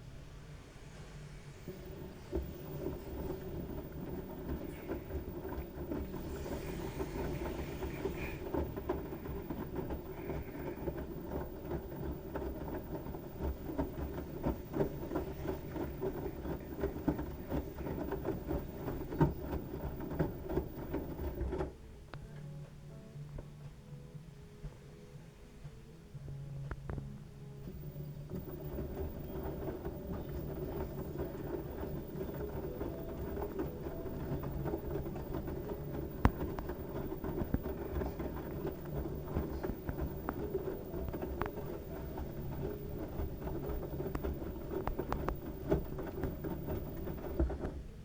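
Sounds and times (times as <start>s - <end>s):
washing machine drum rumbling: 1.5s - 22.4s, 26.7s - 48.0s
small irregular knocks: 2.2s - 21.8s, 27.7s - 47.9s.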